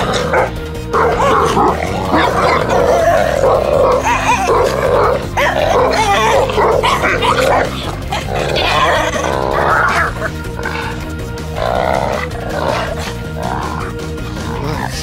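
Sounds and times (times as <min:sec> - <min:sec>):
dogs growling and yipping: 0:00.0 - 0:15.0.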